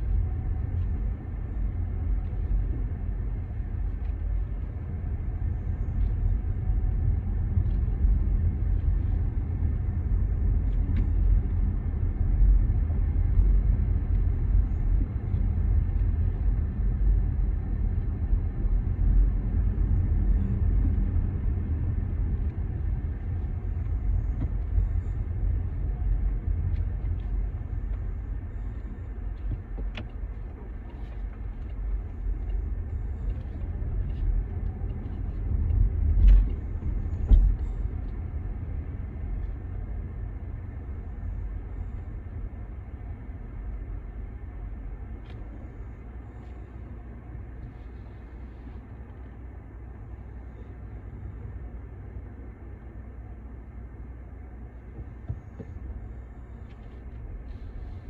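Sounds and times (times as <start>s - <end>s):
low rumble of moving vehicle: 0.0s - 58.0s.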